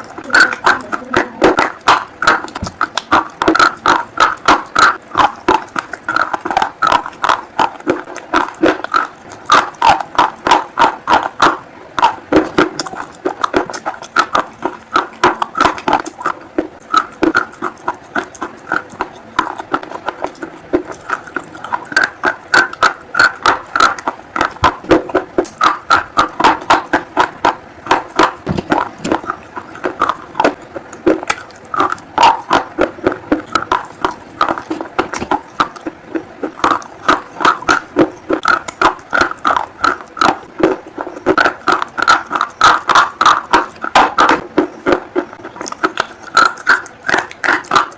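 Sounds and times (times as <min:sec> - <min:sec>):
crunchy food chewing: 0:00.0 - 0:47.9
wet mouth sounds: 0:00.0 - 0:47.9.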